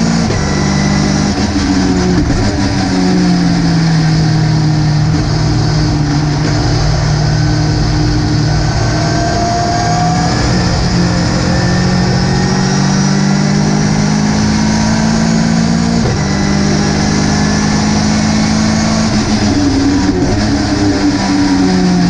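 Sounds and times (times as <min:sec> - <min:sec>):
race car engine running: 0:00.0 - 0:22.0
road and wind noise: 0:00.0 - 0:22.0.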